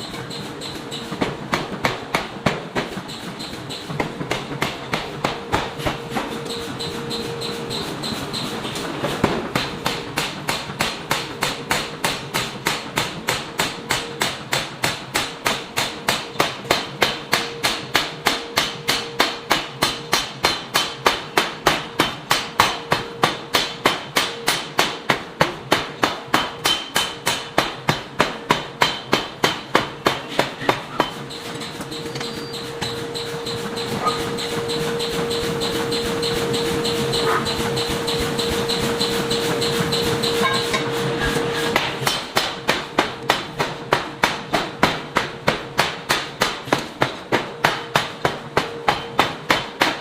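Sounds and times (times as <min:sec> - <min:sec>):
hammer forging iron: 0:00.0 - 0:50.0.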